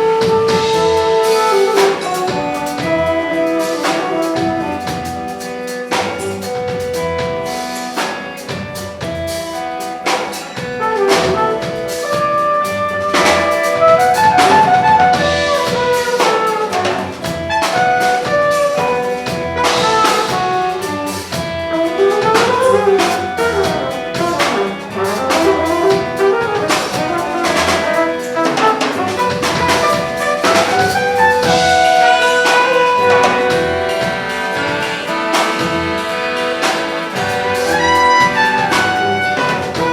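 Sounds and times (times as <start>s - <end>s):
brass band playing jazzy piece: 0.0s - 39.9s
drum hits: 0.0s - 39.9s.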